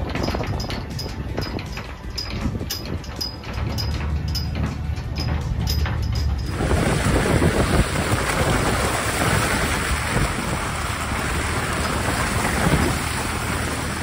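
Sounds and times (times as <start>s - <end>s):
tyres churning through mud and water: 0.0s - 14.0s
wind rush on microphone: 0.0s - 14.0s.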